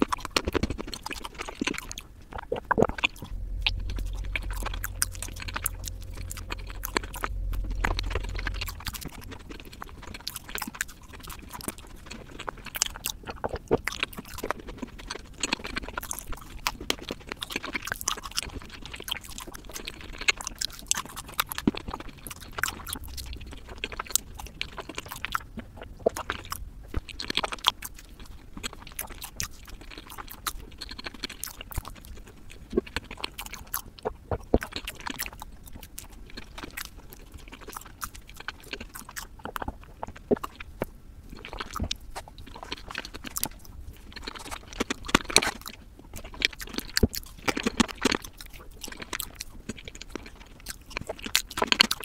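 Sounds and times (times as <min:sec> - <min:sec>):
person chewing cake: 0:00.0 - 0:52.0.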